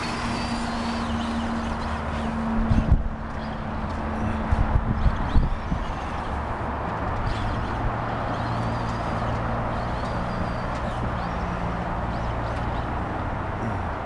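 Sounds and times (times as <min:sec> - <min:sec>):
birds chirping: 0:00.0 - 0:14.0
engine running steadily: 0:00.0 - 0:14.0.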